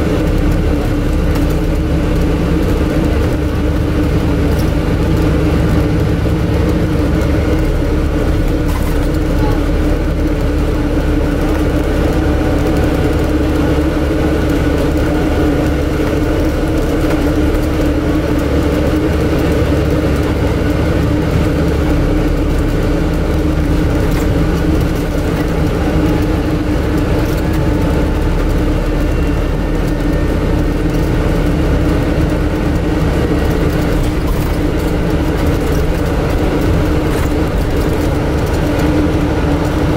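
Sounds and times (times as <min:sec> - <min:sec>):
air-conditioning drone: 0:00.0 - 0:39.9
bus engine: 0:00.0 - 0:39.9.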